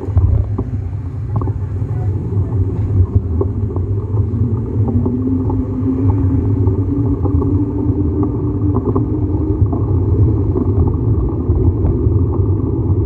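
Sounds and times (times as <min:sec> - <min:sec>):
faint humming tone: 0:00.0 - 0:13.0
steady low rumble: 0:00.0 - 0:13.0.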